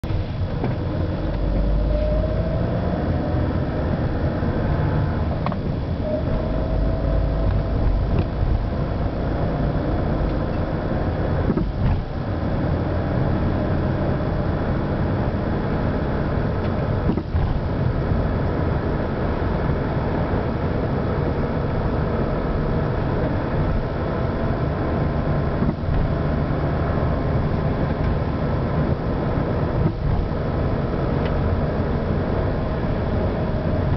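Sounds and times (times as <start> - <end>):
car engine drone with whine: 0.0 - 33.9.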